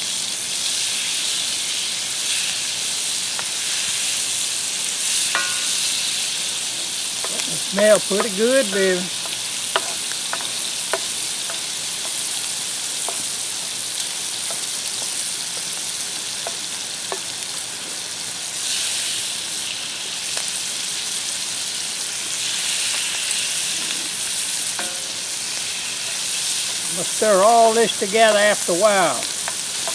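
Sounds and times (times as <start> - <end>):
vegetables sizzling in a pan: 0.0 - 29.9.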